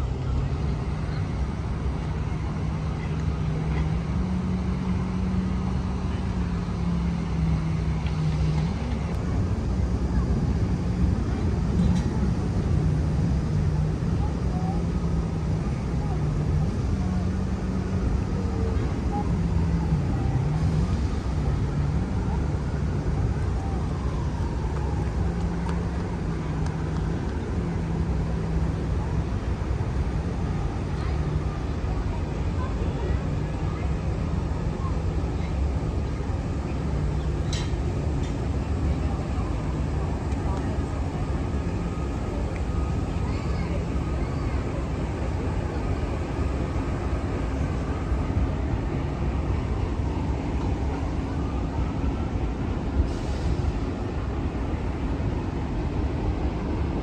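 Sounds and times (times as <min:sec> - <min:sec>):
engine droning: 0:00.0 - 0:56.9.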